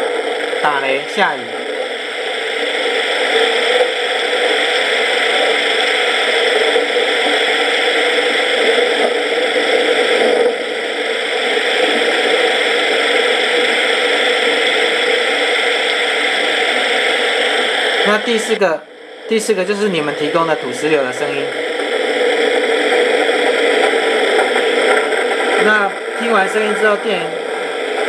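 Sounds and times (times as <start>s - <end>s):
heavy rain hiss through speaker: 0.0s - 28.0s.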